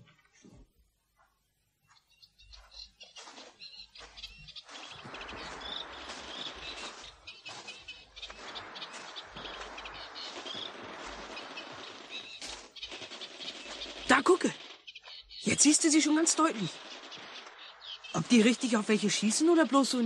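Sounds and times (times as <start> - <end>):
birds chirping: 1.8 - 20.0.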